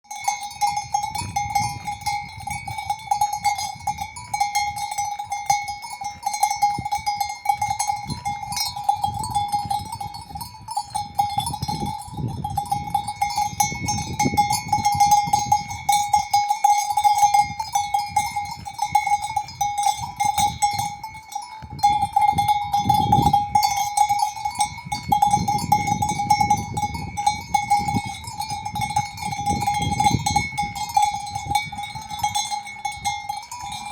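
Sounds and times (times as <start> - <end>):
cowbells clanking: 0.0 - 33.9.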